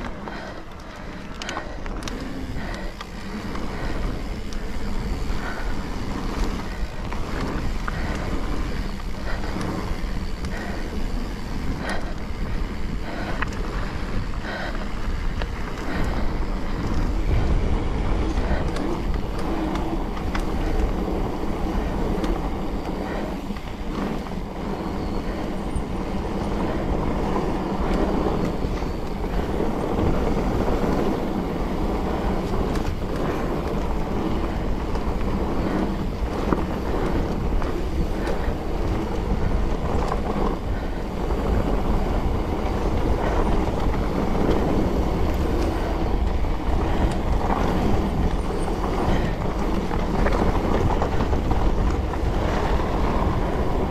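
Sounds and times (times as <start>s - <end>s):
bike rattling and clicking: 0.0s - 53.9s
tyres rumbling over rough ground: 0.0s - 53.9s
wind on microphone: 0.0s - 53.9s.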